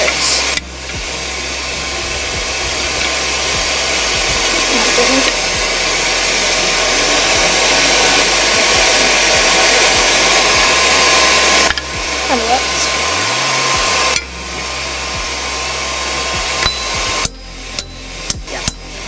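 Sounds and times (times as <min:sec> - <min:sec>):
forge air blast rushing: 0:00.0 - 0:19.0.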